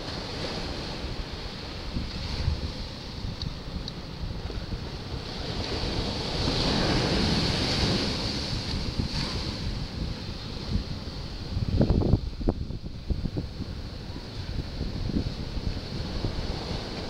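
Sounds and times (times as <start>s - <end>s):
surf washing over rocks: 0.0s - 17.0s
wind rumbling on microphone: 0.0s - 17.0s.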